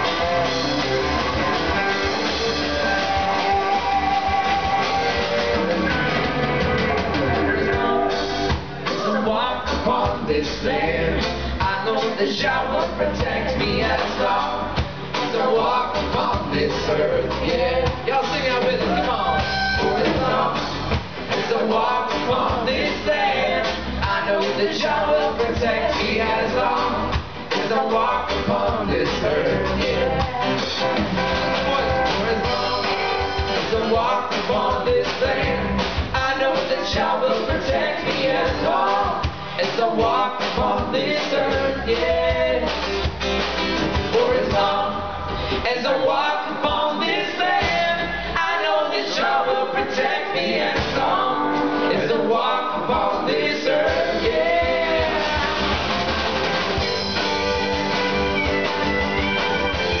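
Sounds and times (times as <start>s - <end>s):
live band playing: 0.0s - 60.0s.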